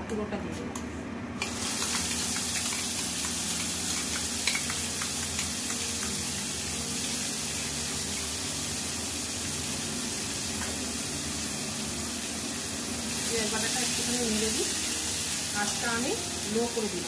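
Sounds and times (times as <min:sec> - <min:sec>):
paste sizzling in hot oil: 0:01.4 - 0:17.0.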